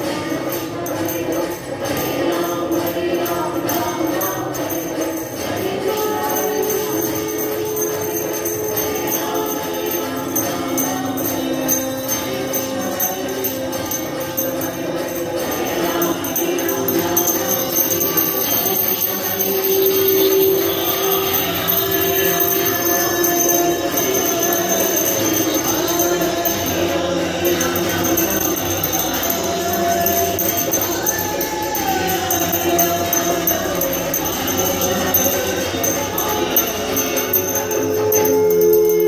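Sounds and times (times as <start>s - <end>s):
devotional singing: 0.0s - 39.0s
small bell jingling: 0.0s - 39.0s.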